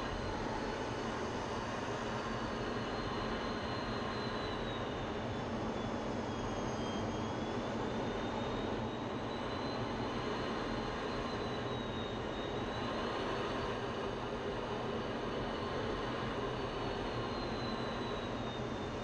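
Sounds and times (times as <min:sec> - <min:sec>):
faint high whine: 0:00.0 - 0:19.0
jet engine and airflow noise: 0:00.0 - 0:19.0.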